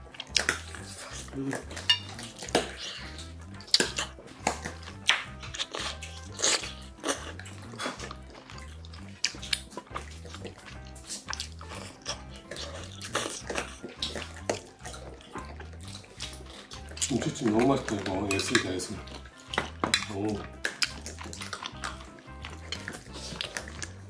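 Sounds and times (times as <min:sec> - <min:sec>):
background music with low beat: 0:00.0 - 0:24.0
wet chewing and biting: 0:00.0 - 0:24.0.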